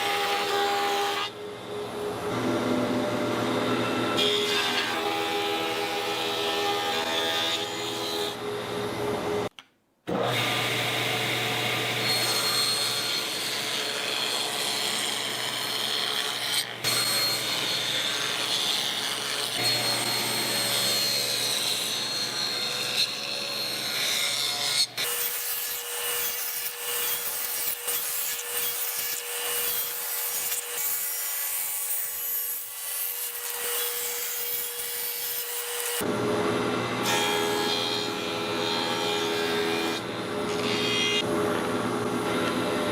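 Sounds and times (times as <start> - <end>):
power tools cutting wood: 0.0 - 9.5, 10.1 - 42.9.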